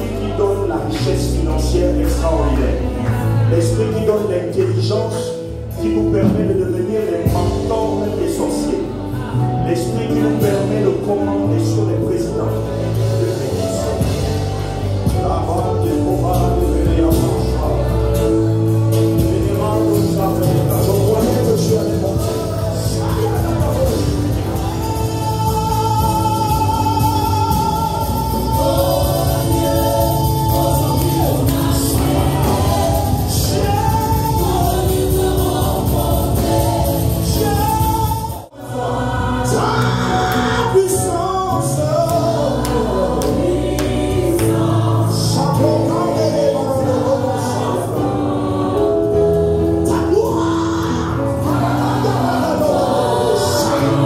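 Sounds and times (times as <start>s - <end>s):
choir singing gospel music: 0.0s - 54.0s.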